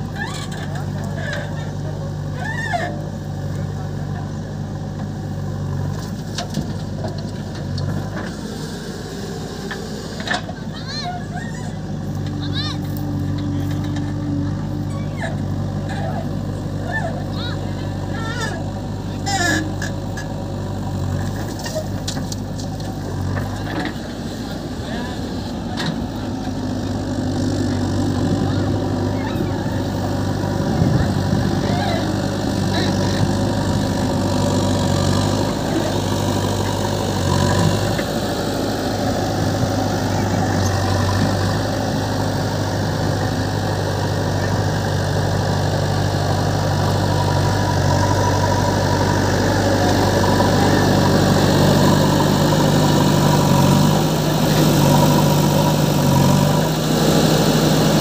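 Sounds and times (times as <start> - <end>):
diesel engine working: 0.0 - 58.0.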